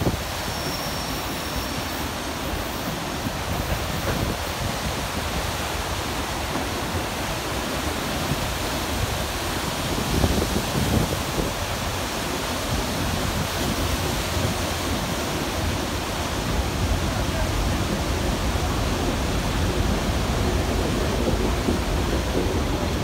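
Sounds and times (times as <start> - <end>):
river rapids rushing: 0.0 - 23.0.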